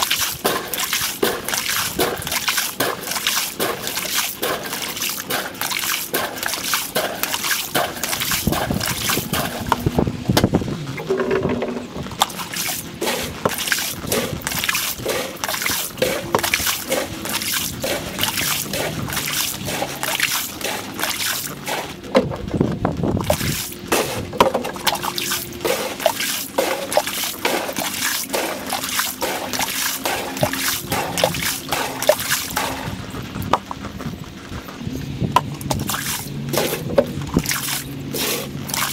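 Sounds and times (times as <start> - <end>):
water trickling and sloshing: 0.0 - 38.9.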